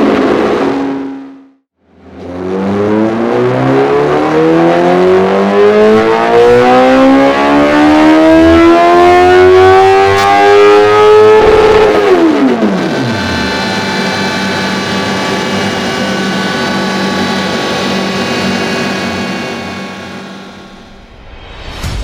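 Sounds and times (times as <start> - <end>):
motorcycle engine revving: 0.0 - 21.1.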